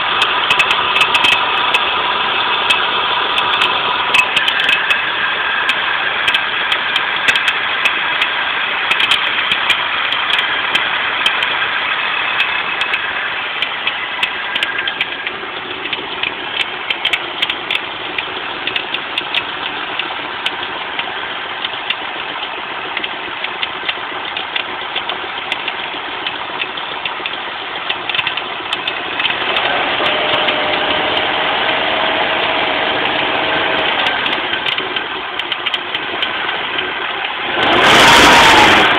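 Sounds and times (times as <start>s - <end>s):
steady whine: 0.0s - 22.6s, 28.4s - 37.4s
car engine running: 0.0s - 38.9s
rapid irregular ticking: 0.0s - 38.9s.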